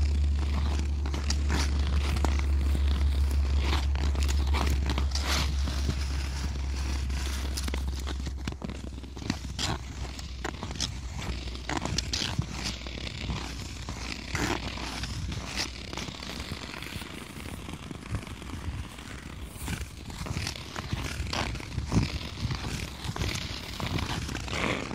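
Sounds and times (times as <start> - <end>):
ice skate blades scraping: 0.0 - 24.9
low steady rumble: 0.0 - 24.9.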